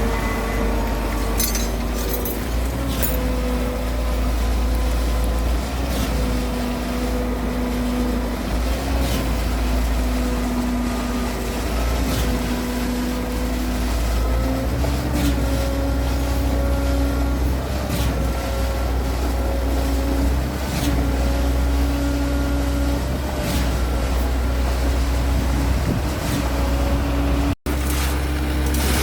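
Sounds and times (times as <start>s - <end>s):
truck engine rumbling: 0.0s - 29.0s.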